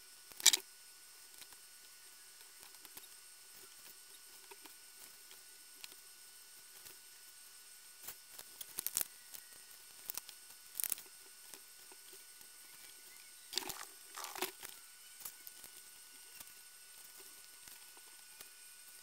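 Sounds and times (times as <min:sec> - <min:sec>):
faint clicks and rustles of wires: 0:00.2 - 0:19.0.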